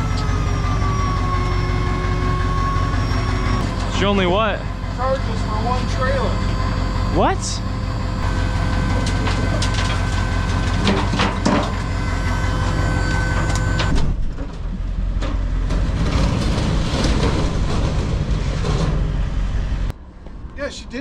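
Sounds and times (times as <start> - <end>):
heavy vehicle engine rumble: 0.0 - 21.0.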